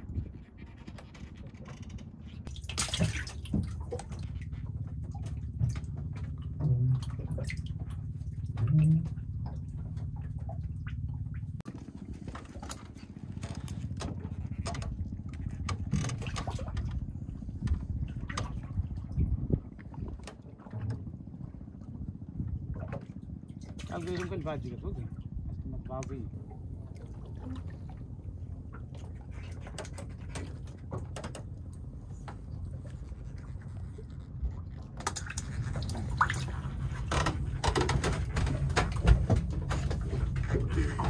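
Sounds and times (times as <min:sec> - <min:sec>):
steady low rumble: 0:00.0 - 0:41.0
water splashing around boat: 0:00.0 - 0:41.0.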